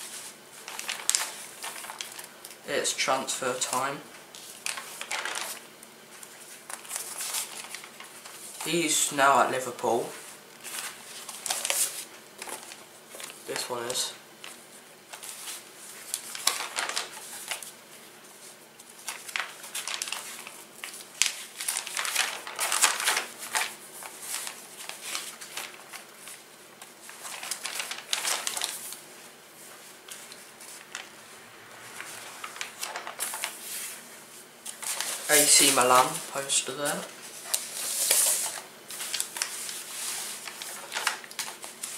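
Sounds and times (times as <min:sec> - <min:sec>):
magazine pages rustling and flipping: 0:00.0 - 0:41.9.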